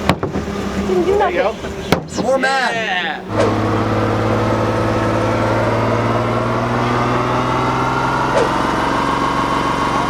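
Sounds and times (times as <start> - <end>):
lawn mower engine running: 0.0 - 10.0
rising whine: 0.5 - 10.0.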